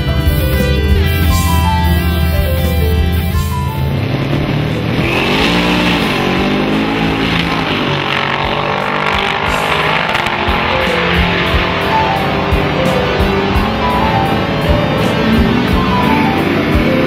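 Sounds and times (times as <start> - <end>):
drag cars engines revving: 0.0 - 17.0
music: 0.0 - 17.0.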